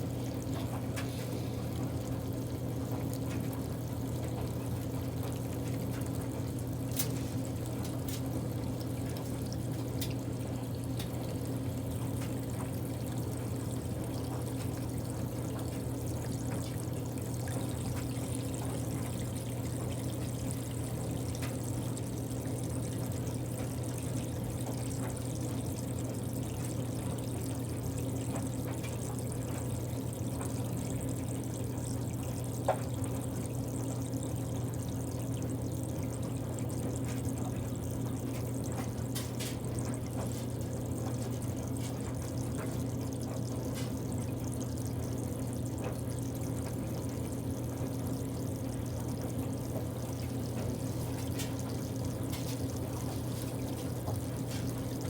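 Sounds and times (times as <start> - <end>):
constant low hum: 0.0 - 55.0
water running into tub: 0.0 - 55.0.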